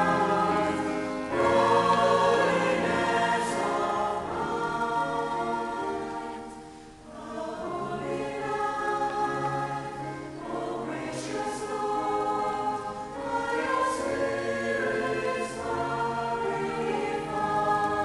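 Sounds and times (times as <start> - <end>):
mixed choir singing: 0.0 - 18.0.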